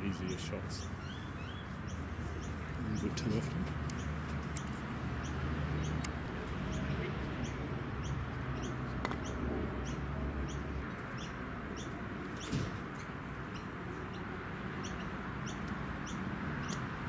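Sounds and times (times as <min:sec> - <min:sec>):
bird chirping: 0:00.0 - 0:12.7, 0:13.4 - 0:16.9.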